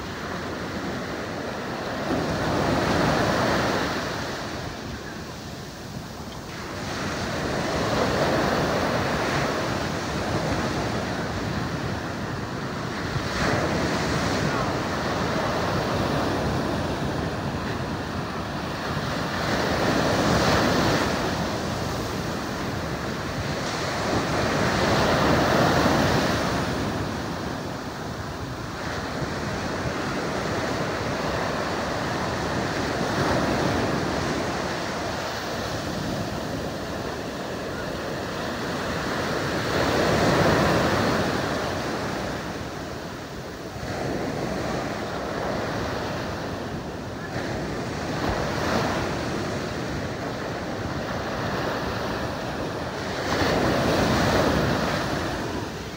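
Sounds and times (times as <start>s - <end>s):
surf breaking on sand: 0.0s - 55.9s
wind buffeting microphone: 0.0s - 55.9s.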